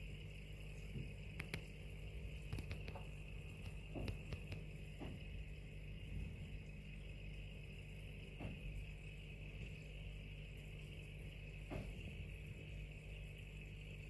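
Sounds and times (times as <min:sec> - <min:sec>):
aquarium equipment humming: 0:00.0 - 0:14.0.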